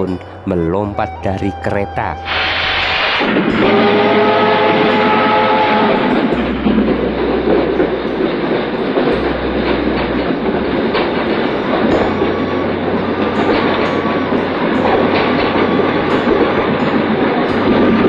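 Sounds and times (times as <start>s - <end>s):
train running on tracks: 0.0s - 18.0s
train horn: 1.6s - 18.0s.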